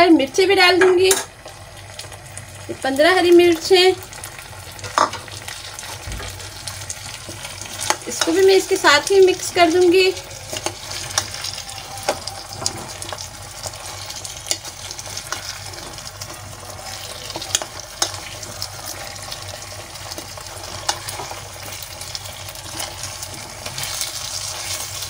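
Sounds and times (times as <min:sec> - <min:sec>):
food sizzling in oil: 0:00.0 - 0:25.0.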